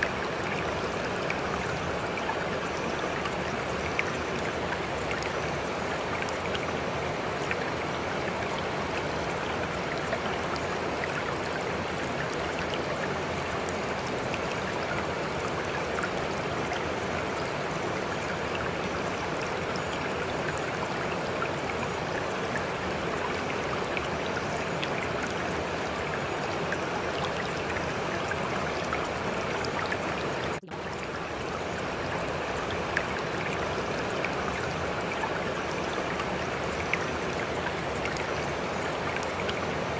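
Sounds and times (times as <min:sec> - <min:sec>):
running water stream: 0:00.0 - 0:39.9.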